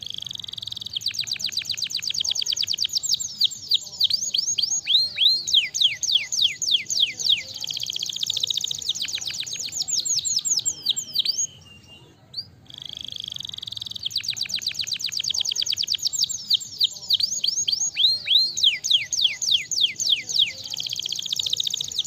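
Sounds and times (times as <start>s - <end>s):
canary singing trills: 0.0s - 22.0s.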